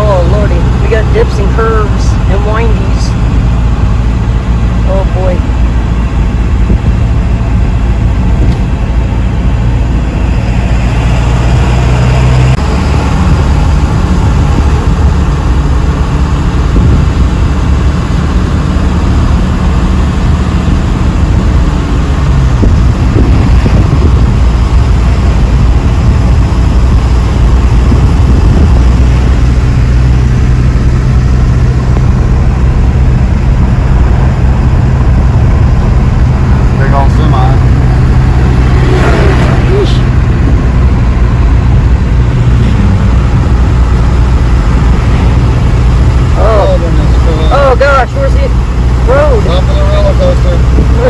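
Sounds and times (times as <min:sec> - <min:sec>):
engine and road drone: 0:00.0 - 0:51.0.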